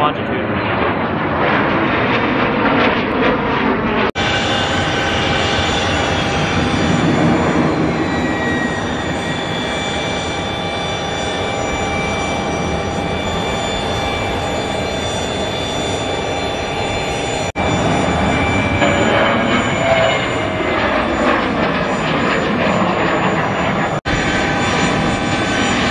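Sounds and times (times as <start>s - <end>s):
jet engines running: 0.0s - 25.9s.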